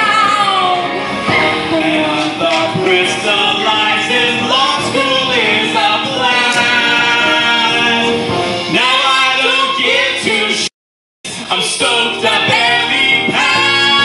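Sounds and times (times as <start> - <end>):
musical accompaniment: 0.0 - 10.7, 11.3 - 14.0
two singers singing: 0.0 - 10.7, 11.3 - 14.0.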